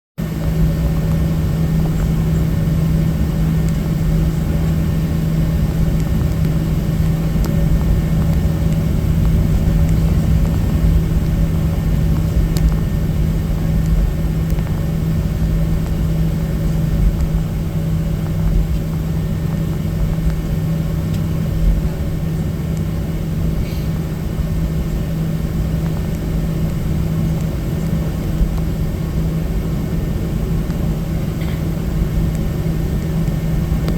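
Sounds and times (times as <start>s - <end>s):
airplane cabin rumble and hum: 0.2s - 33.9s.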